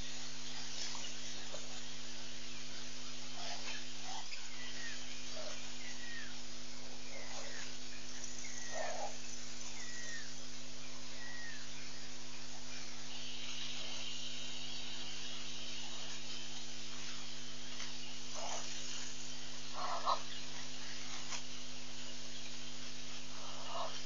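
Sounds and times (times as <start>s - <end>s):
electrical hum and hiss: 0.0s - 24.0s
high insect buzz: 0.0s - 24.0s.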